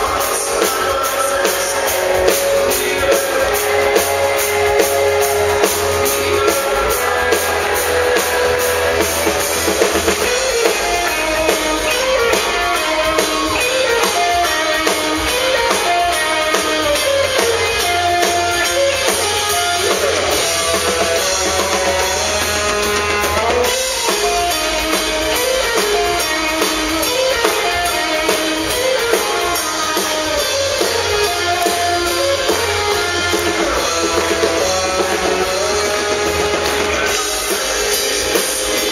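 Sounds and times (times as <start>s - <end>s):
bass guitar: 0.0s - 38.9s
drum kit: 0.0s - 38.9s
electric guitar lead: 0.0s - 38.9s.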